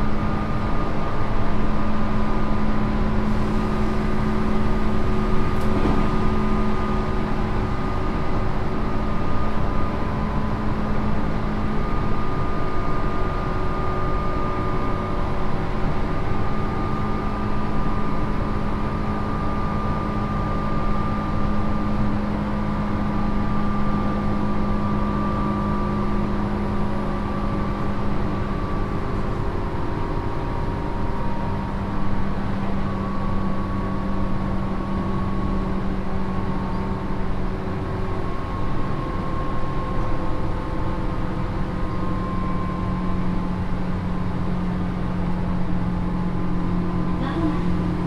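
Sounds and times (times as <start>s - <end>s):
constant low hum: 0.0s - 48.0s
train wheels rumbling on rail: 0.0s - 48.0s.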